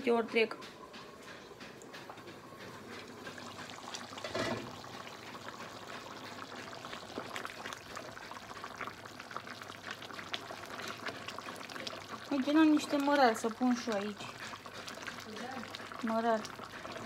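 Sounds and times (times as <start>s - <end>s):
stew bubbling with small pops: 0.9s - 17.0s.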